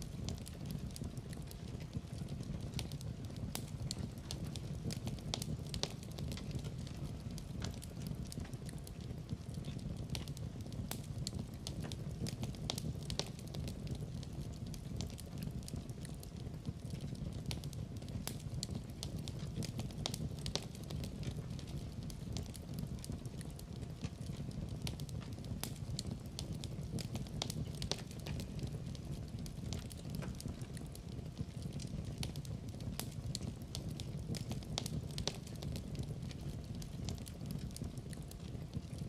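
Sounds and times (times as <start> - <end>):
low rush of flame: 0.0 - 39.0
wood fire crackling: 0.0 - 39.0.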